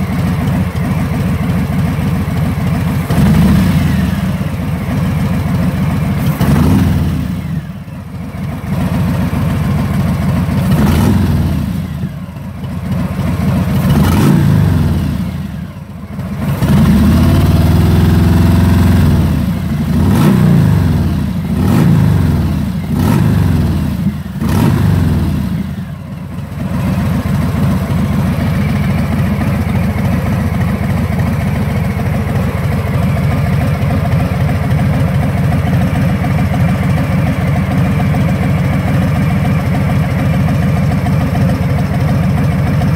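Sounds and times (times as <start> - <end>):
motorcycle engine revving and idling: 0.0 - 42.9.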